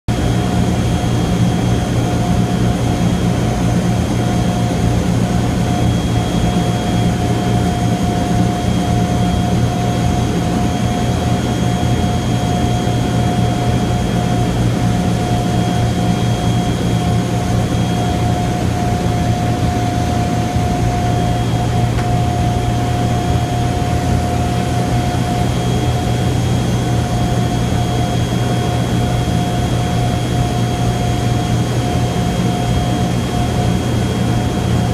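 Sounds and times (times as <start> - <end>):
high-pitched whine: 0.1 - 34.9
propeller engines droning: 0.1 - 34.9.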